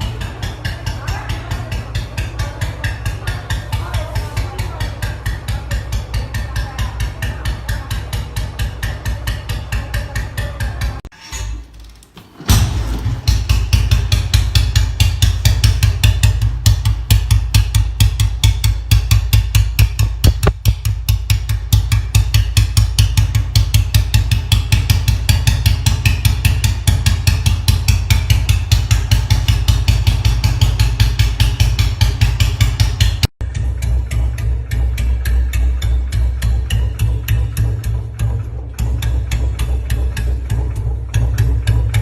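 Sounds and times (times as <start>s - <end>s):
motorcycle engine idling: 0.0s - 11.2s, 12.0s - 42.0s.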